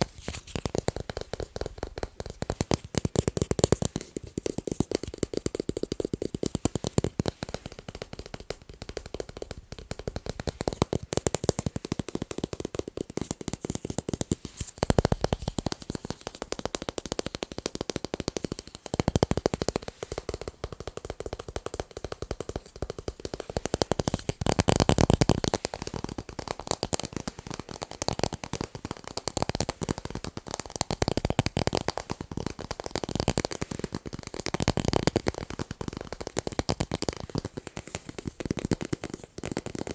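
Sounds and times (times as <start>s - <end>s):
fast tapping on tape: 0.0s - 39.9s.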